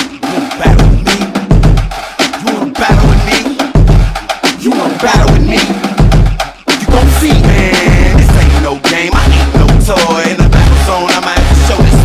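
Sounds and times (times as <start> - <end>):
hip-hop dance track with heavy bass: 0.0 - 12.0.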